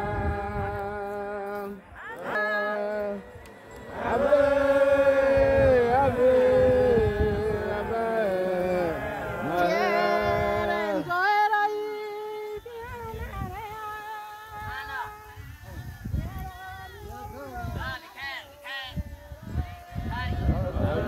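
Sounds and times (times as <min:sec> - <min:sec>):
people singing a chant-like hymn: 0:00.0 - 0:21.0.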